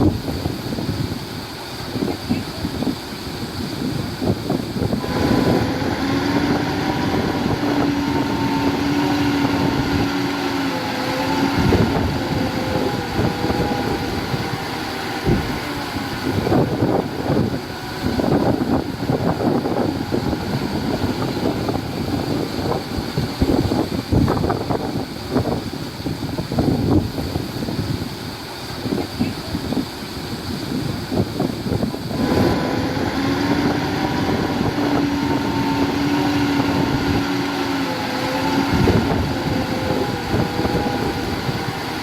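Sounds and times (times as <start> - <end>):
machinery engine whine: 0.0 - 42.0.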